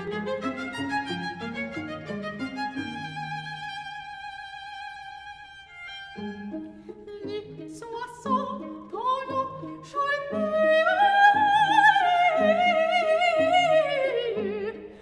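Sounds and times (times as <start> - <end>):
soprano singing: 0.0 - 15.0
string quartet chords: 0.0 - 15.0.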